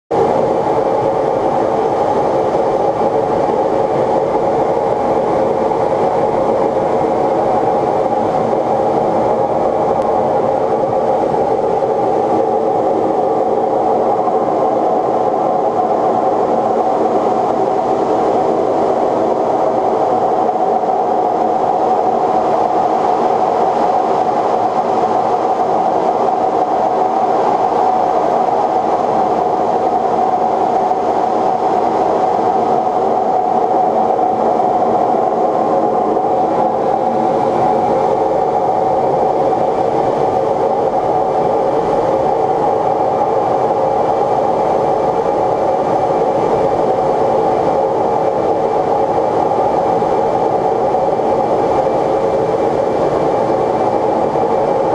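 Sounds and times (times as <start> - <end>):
jet cockpit engine drone: 0.1 - 54.9.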